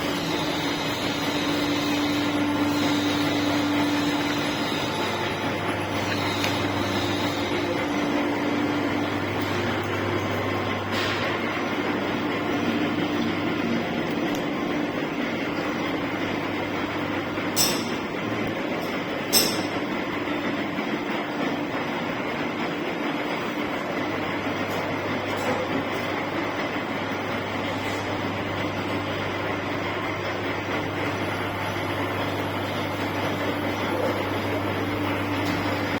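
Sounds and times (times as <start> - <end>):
lathe running: 0.0 - 25.2, 26.1 - 36.0.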